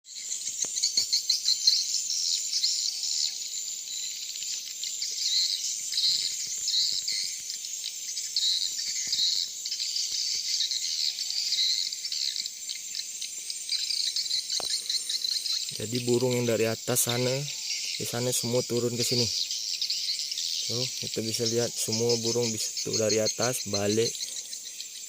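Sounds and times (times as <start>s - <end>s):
high-pitched bird chirping chorus: 0.1s - 25.0s.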